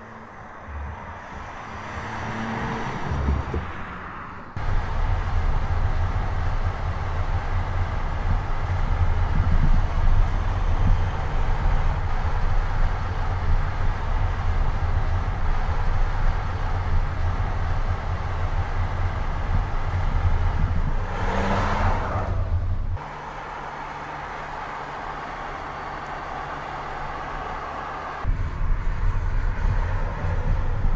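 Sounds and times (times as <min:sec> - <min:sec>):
car engine and exhaust rumble: 0:00.0 - 0:30.9.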